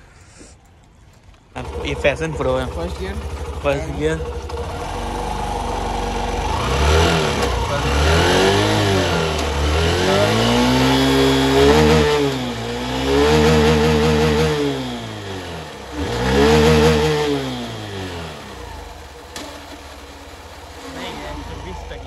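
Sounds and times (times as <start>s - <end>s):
motorcycle engine revving: 1.5s - 22.0s.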